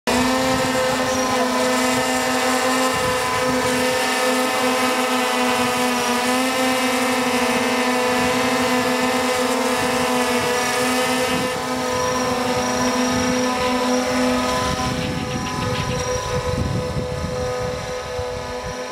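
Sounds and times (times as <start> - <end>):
drone propellers buzzing: 0.1 - 18.9.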